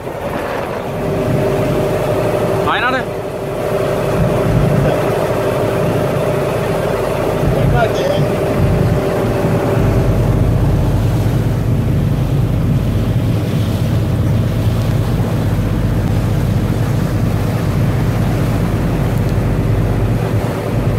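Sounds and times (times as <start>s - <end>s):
boat engine running: 0.0s - 20.9s
water rushing past hull: 0.0s - 20.9s
wind noise on microphone: 3.6s - 20.9s.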